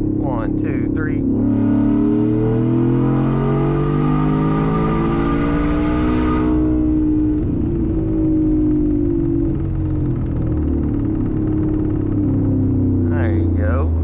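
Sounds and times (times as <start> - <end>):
truck engine accelerating hard: 0.0 - 14.0.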